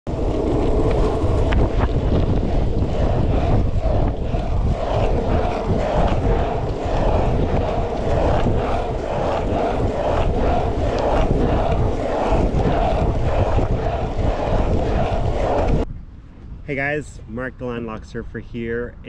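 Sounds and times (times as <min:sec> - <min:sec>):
wind buffeting microphone: 0:00.0 - 0:19.0
skateboard wheels rumbling on asphalt: 0:00.1 - 0:15.8.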